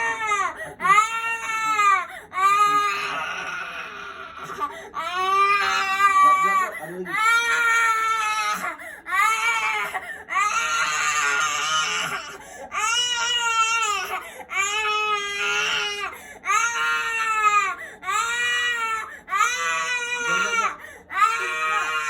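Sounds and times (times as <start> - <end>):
infant crying: 0.0 - 22.0.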